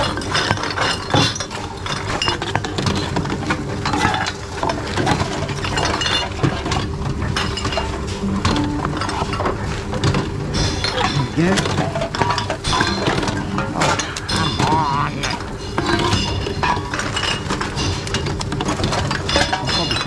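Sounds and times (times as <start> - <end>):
glass and metal clinking: 0.0 - 20.0
machine mechanism hum: 0.0 - 20.0.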